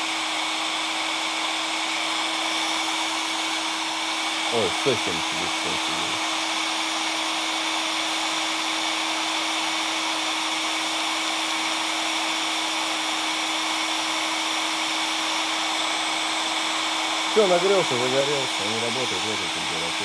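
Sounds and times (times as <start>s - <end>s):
heat gun fan rushing air: 0.0s - 20.0s.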